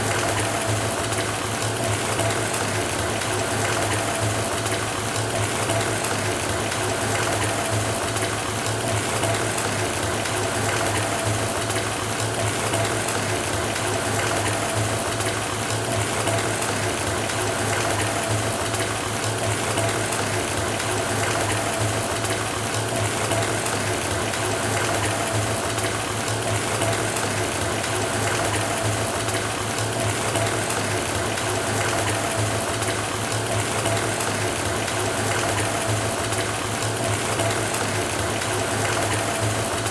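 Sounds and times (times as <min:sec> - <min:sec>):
tap water pouring into bathtub: 0:00.0 - 0:39.9.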